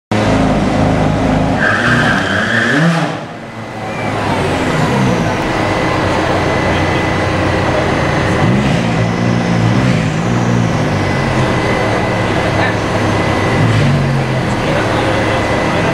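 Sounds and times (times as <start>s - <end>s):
car engine revving: 0.1s - 15.9s.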